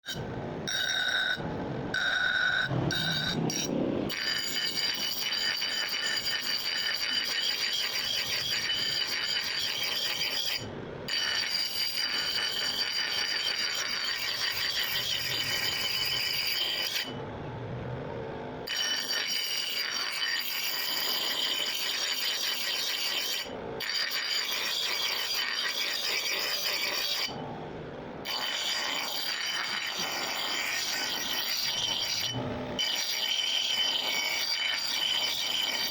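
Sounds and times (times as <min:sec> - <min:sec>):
tool scraping steel axe head: 0:02.0 - 0:17.2, 0:18.6 - 0:27.6, 0:28.2 - 0:35.9.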